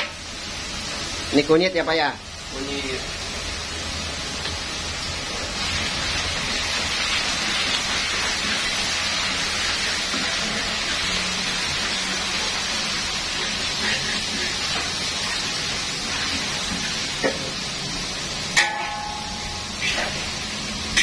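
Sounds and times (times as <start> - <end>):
spice paste sizzling in oil: 0.0 - 21.0.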